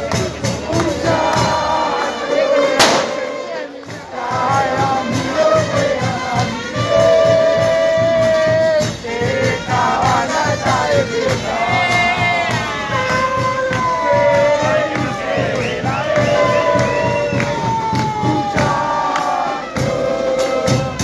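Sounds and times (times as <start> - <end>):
steady drum beat: 0.0 - 21.0
trumpets holding long notes: 0.0 - 21.0.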